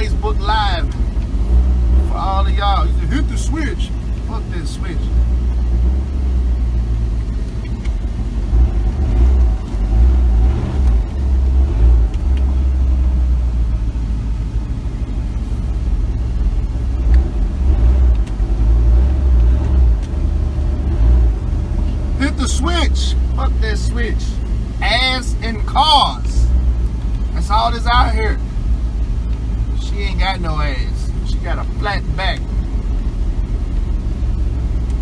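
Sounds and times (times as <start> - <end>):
vehicle rumble from inside cab: 0.0 - 35.0.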